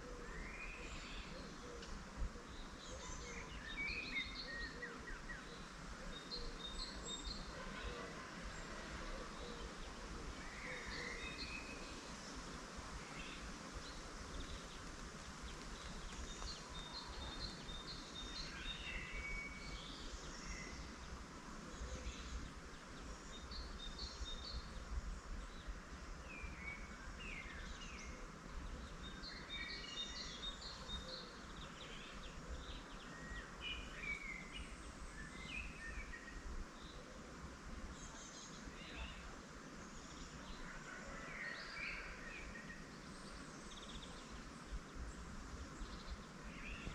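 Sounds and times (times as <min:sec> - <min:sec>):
background hiss and rumble: 0:00.0 - 0:46.9
small birds singing: 0:00.0 - 0:46.9.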